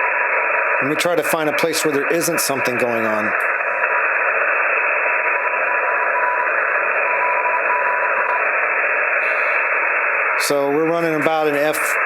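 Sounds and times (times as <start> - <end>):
faint broken radio tone: 0.0 - 12.0
radio receiver hiss: 0.0 - 12.0.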